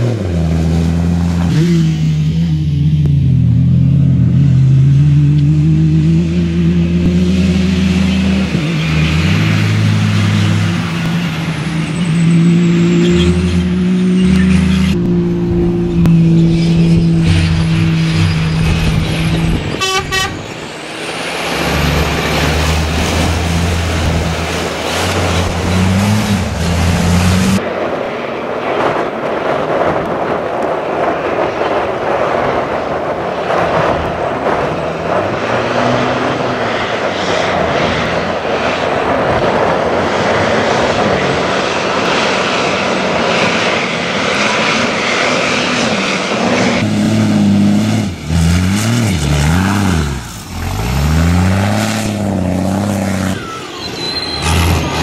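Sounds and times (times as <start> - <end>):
truck engine driving past: 0.0 - 27.7, 32.7 - 55.0
loud rushing noise: 5.8 - 55.0.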